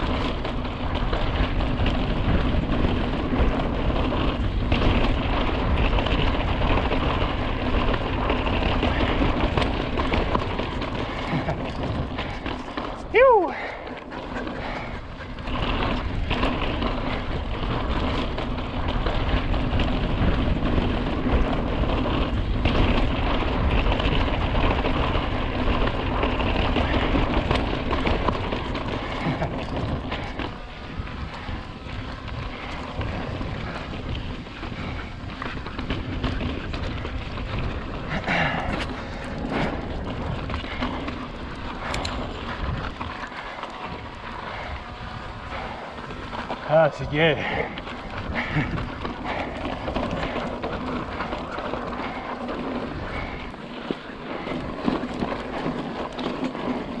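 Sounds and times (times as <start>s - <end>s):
bike rumbling and rattling: 0.0s - 57.0s
wind buffeting microphone: 0.0s - 57.0s.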